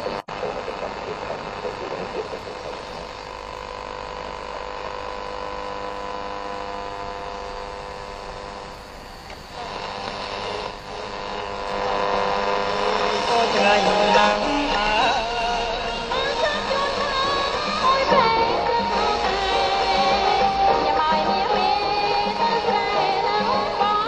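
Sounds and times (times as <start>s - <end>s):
radio buzzing hum: 0.0s - 24.0s
radio static: 0.0s - 24.0s
radio station audio: 0.0s - 24.0s.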